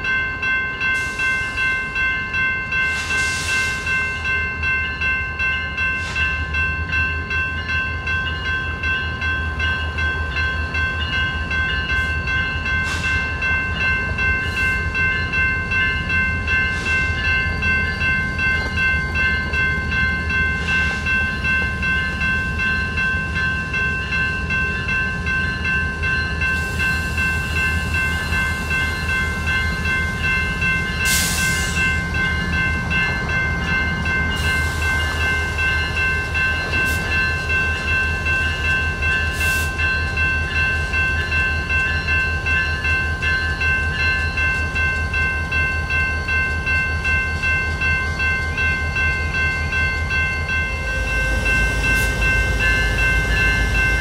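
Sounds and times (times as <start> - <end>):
crossing bell ringing: 0.0 - 54.0
diesel locomotives rumbling: 0.0 - 54.0.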